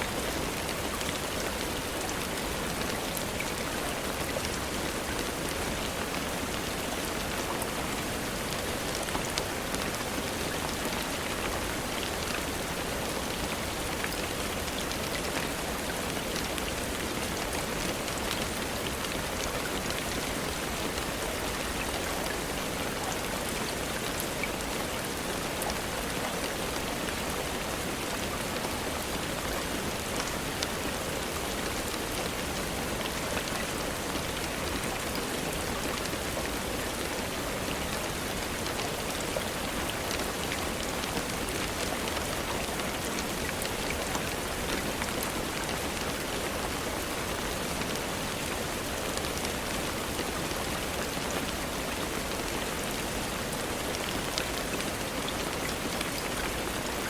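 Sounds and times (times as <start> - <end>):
steady rainfall hiss: 0.0 - 57.0.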